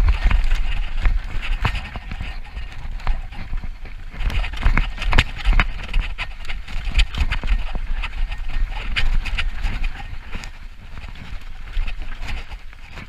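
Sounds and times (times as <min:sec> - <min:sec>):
bike rattling over bumps: 0:00.0 - 0:13.0
wind on microphone: 0:00.0 - 0:13.0.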